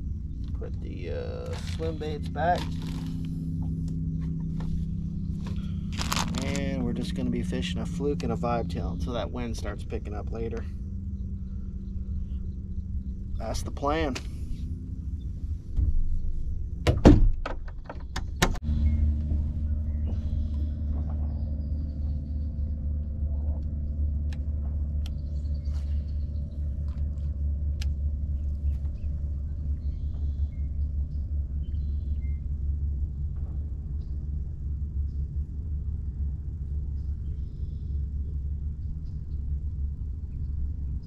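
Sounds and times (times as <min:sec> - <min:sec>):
outboard engine rumbling: 0:00.0 - 0:41.0.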